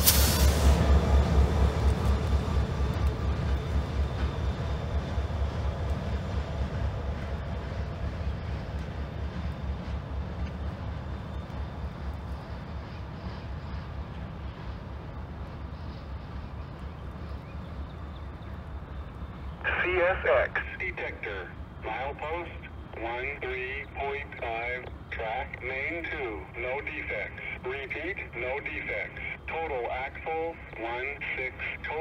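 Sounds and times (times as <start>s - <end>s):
locomotive engines running: 0.0s - 32.0s.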